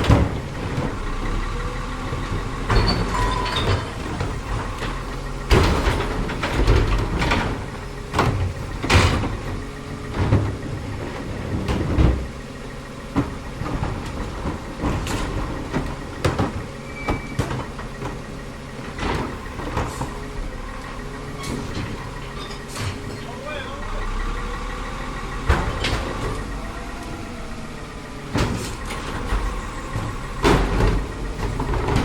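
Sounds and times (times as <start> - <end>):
bangs and clanks from truck body: 0.0 - 23.4, 25.3 - 32.0
garbage truck running: 0.0 - 32.0.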